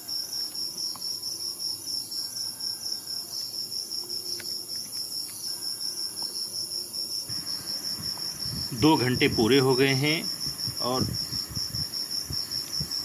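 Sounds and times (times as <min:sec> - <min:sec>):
crickets chirping: 0:00.0 - 0:13.0
high insect buzz: 0:00.0 - 0:13.0.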